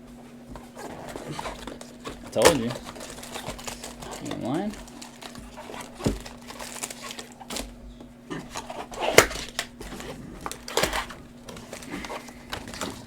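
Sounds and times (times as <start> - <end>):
faint steady hum: 0.0 - 13.0
wrapper crinkling and rustling: 0.6 - 13.0.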